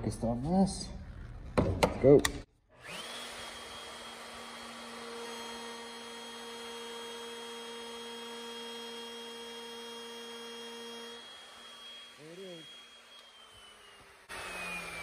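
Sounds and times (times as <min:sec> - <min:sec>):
wood router whining: 0:02.8 - 0:15.0.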